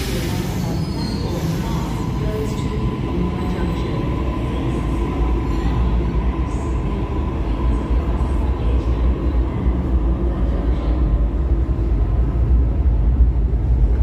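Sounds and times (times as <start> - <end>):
train rumbling in tunnel: 0.0 - 14.0.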